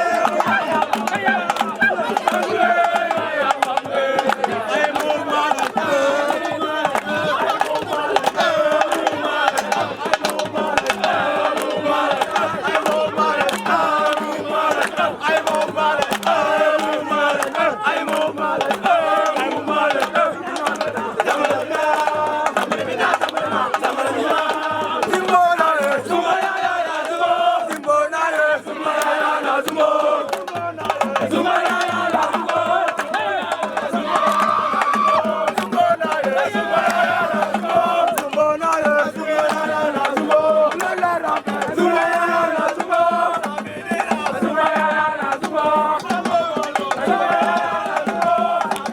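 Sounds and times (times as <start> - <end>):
sharp percussive strikes: 0.0 - 27.9, 28.9 - 48.9
crowd noise: 0.0 - 48.9
voices singing together: 0.0 - 48.9.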